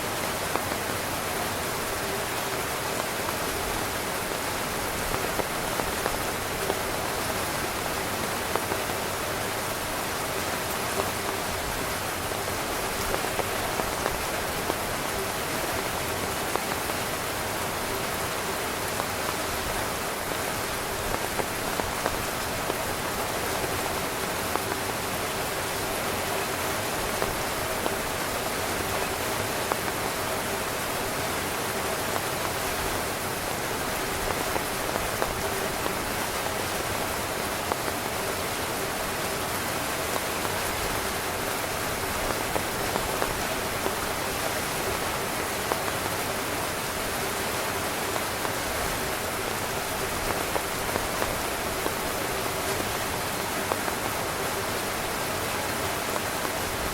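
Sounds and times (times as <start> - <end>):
heavy rain on a tent: 0.0 - 56.9
single raindrops tapping: 0.1 - 56.9.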